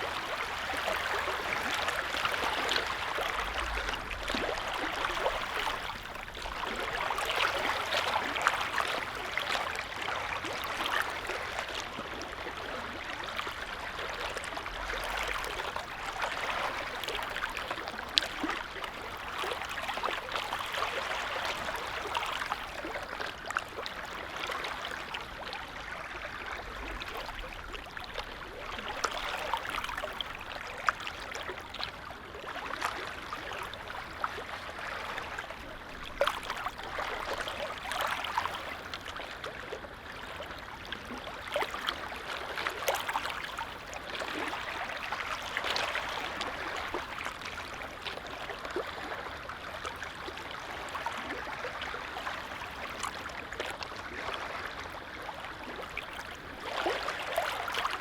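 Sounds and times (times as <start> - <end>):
small waves lapping: 0.0 - 58.0
water splashes and drips: 0.0 - 58.0.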